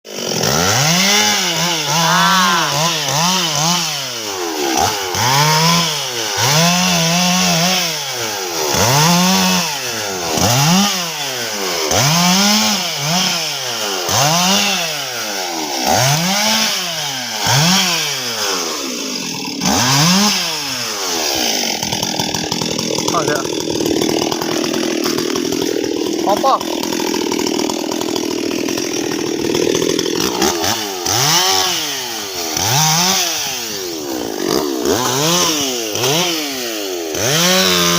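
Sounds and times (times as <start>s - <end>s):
chainsaw revving: 0.1s - 37.9s.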